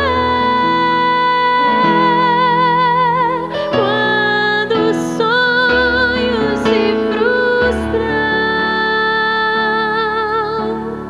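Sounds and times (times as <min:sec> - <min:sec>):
woman singing worship song: 0:00.0 - 0:11.0.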